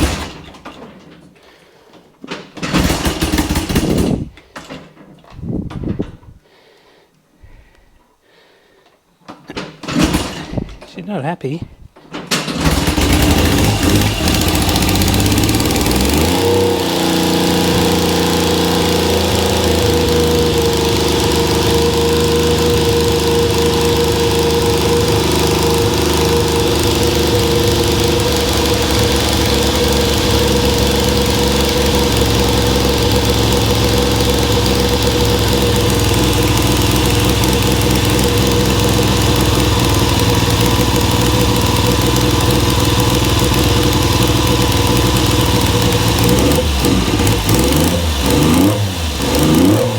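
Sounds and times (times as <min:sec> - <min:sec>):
motorcycle engine starting and revving: 0:00.0 - 0:01.2, 0:02.4 - 0:06.3, 0:09.6 - 0:10.8, 0:12.2 - 0:49.9.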